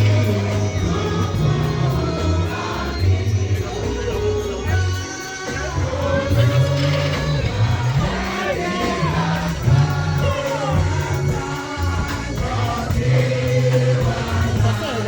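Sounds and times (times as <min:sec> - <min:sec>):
band playing: 0:00.0 - 0:15.0
bass line in held notes: 0:00.0 - 0:15.0
group of voices singing gospel: 0:00.0 - 0:15.0.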